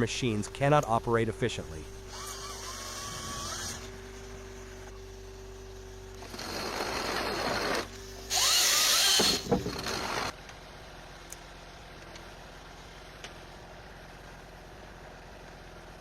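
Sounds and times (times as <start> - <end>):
low steady engine hum: 0.0 - 16.0.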